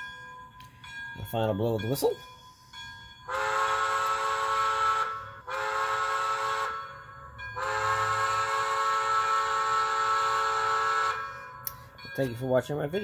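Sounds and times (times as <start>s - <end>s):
steam locomotive chime whistle: 0.0s - 12.2s.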